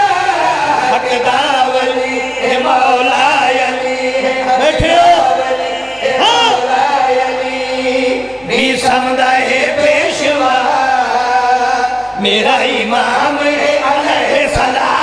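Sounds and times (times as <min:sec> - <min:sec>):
men chanting into microphones: 0:00.0 - 0:15.0.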